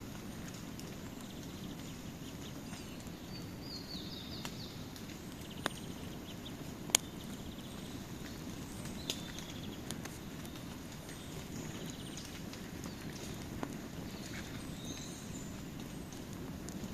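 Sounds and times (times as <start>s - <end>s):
bird chirping: 0.0s - 16.2s
burning wood popping: 0.0s - 16.9s
campfire flames rushing: 0.0s - 16.9s.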